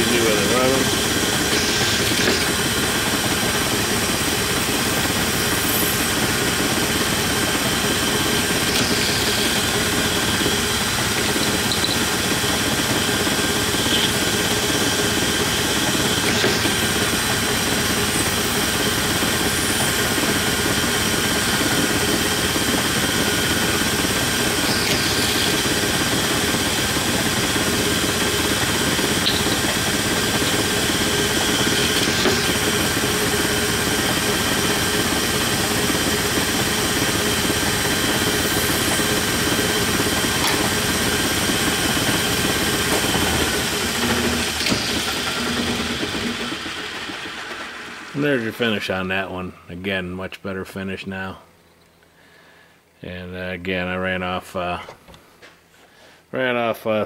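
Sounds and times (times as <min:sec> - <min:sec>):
lathe running with mechanical whir: 0:00.0 - 0:49.3
steady whining tones: 0:00.0 - 0:49.8.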